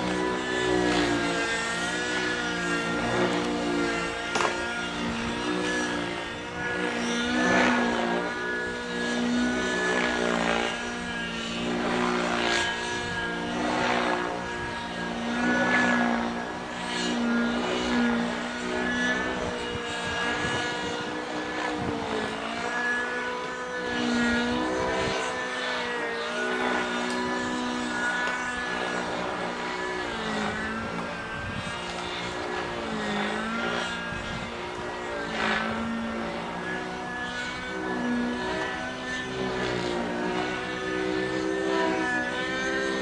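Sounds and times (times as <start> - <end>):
model helicopter engine and rotor: 0.0 - 43.0.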